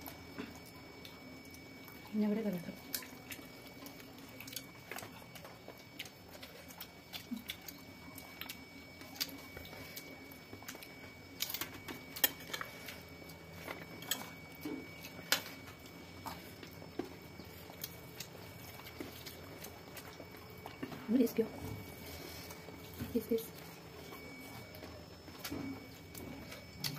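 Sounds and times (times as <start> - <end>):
chewing and lip smacks: 2.7 - 26.9.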